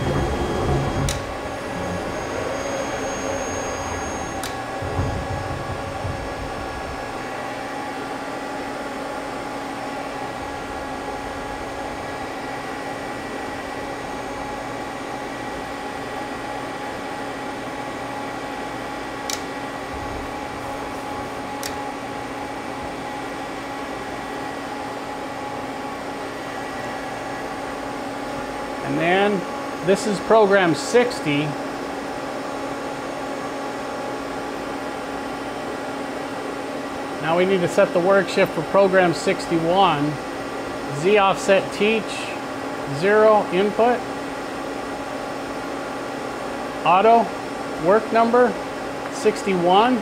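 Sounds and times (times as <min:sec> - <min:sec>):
lathe fan and electrical hum: 0:00.0 - 0:50.0.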